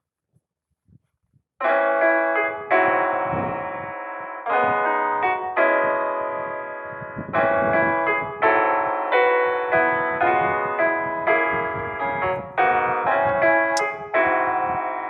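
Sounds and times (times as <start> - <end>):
electric piano chords: 1.6 - 15.0.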